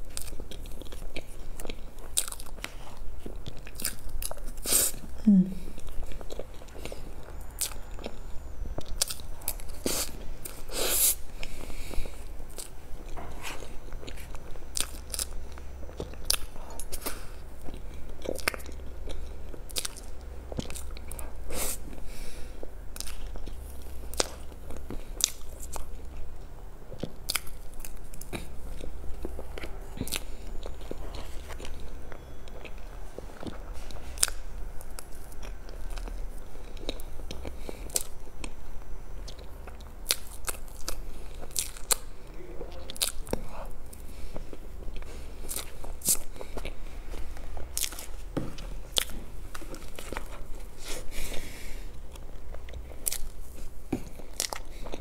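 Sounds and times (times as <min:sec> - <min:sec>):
wet chewing and mouth smacks: 0:00.0 - 0:22.0, 0:23.0 - 0:38.6, 0:39.2 - 0:55.0.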